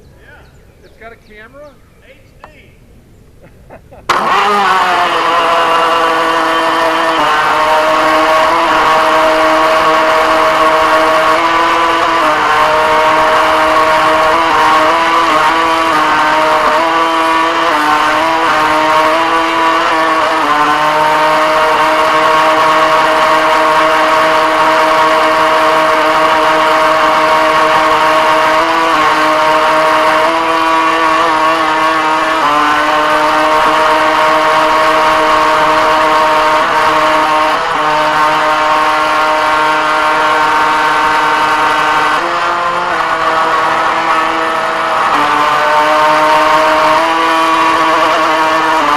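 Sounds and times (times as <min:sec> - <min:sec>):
rc boat motor whining: 0:04.0 - 0:48.9.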